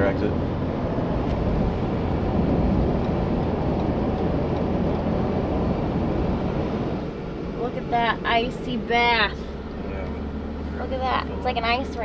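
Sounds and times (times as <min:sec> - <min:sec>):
road and engine noise in cab: 0:00.0 - 0:12.0.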